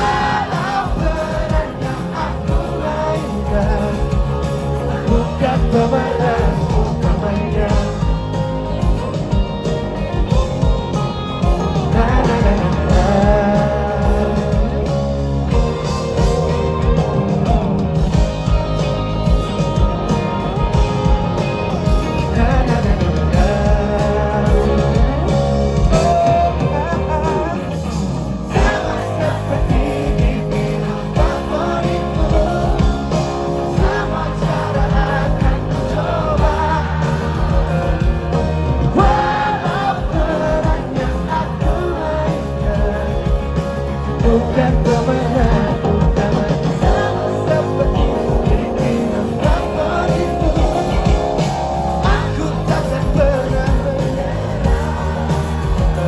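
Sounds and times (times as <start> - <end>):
pop-rock band playing live: 0.0 - 56.0
voices singing: 0.0 - 56.0.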